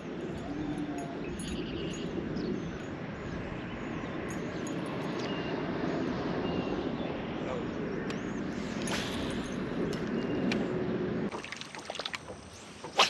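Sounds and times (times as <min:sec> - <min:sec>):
birds chirping and whistling: 0:00.0 - 0:10.8
steady low rushing: 0:00.0 - 0:11.3.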